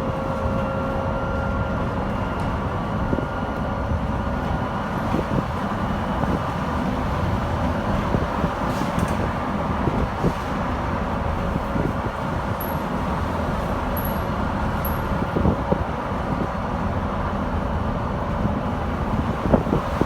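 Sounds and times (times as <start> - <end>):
bus road rumble: 0.0 - 20.0.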